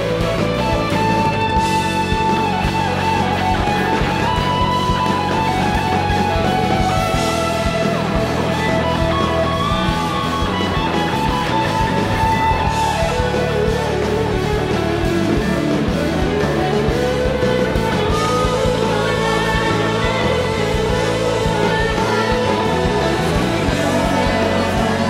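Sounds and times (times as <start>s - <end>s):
live band with electric guitar: 0.0s - 25.0s.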